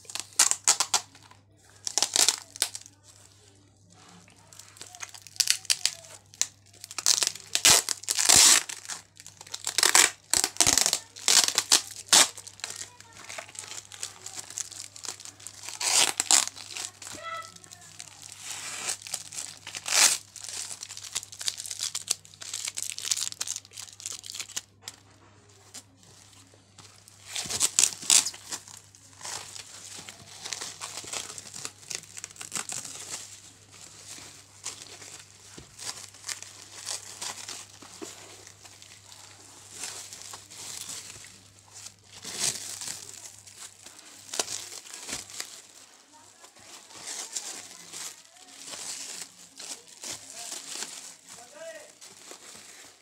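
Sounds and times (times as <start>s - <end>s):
plastic wrap crinkling and tearing: 0.0s - 53.0s.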